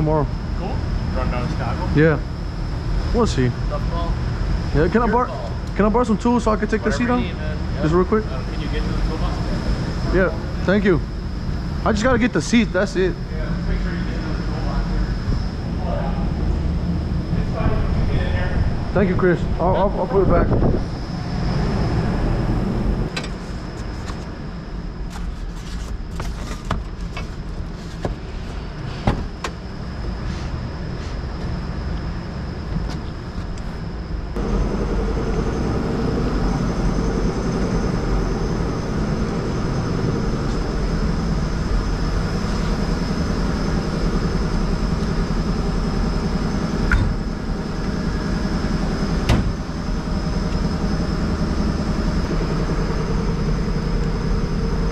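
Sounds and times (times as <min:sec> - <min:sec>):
low garage rumble: 0:00.0 - 0:54.9.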